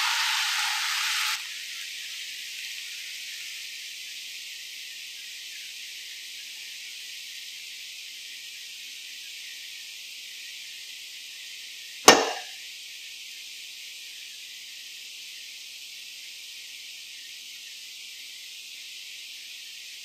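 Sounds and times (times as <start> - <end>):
steady high hiss: 1.2 - 20.0.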